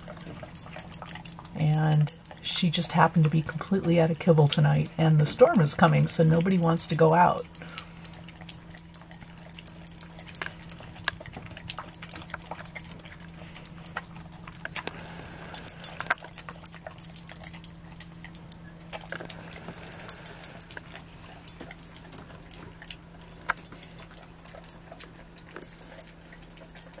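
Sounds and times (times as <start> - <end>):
dog chewing and licking: 0.0 - 27.0
steady low hum: 0.0 - 27.0.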